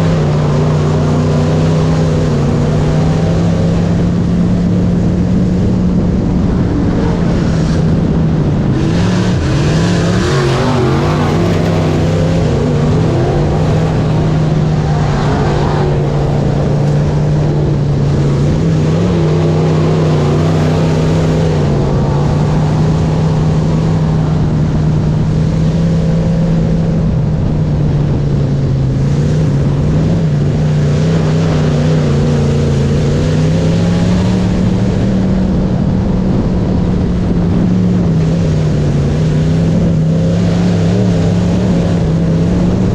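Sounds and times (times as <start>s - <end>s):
race car engine running: 0.0s - 42.9s.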